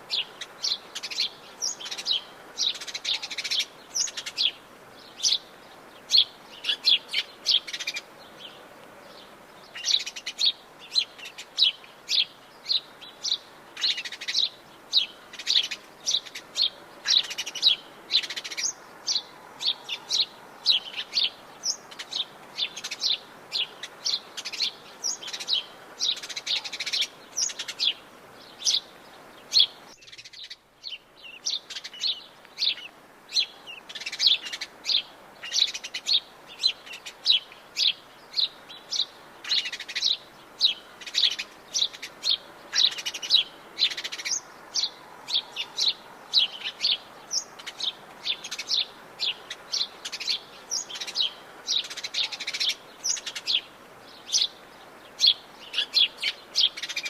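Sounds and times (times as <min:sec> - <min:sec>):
birds chirping: 0:00.0 - 0:57.0
faint background hiss: 0:00.0 - 0:57.0.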